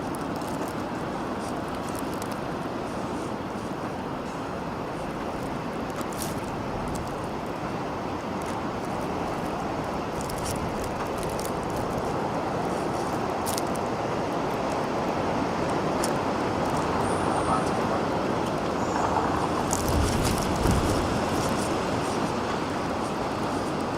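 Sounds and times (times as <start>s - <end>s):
strong storm wind roaring: 0.0s - 23.9s.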